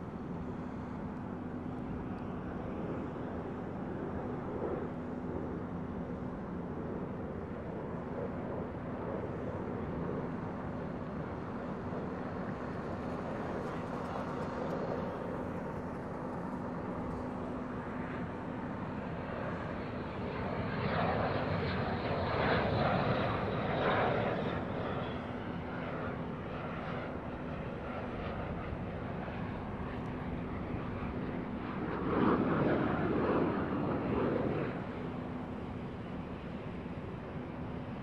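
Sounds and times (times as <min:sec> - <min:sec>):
distant jet engine: 0:00.0 - 0:38.0.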